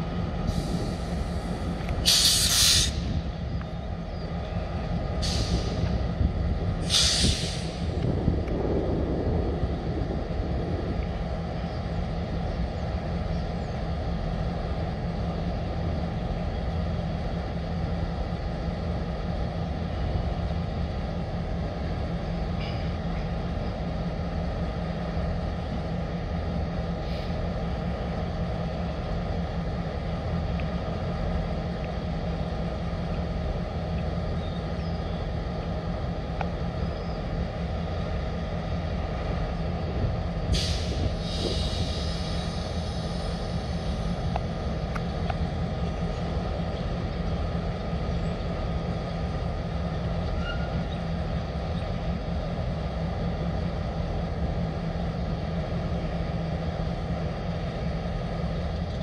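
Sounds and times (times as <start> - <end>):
diesel locomotives idling: 0.0 - 59.0.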